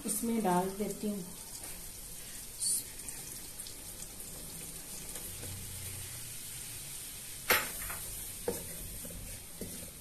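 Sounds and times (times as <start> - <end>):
butter sizzling in a wok: 0.0 - 10.0.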